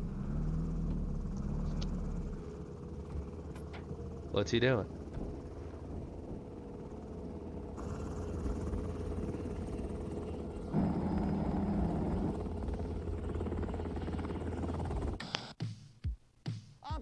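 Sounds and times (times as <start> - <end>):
strong hum: 0.0 - 15.2
helicopter rotor drone: 0.0 - 15.4.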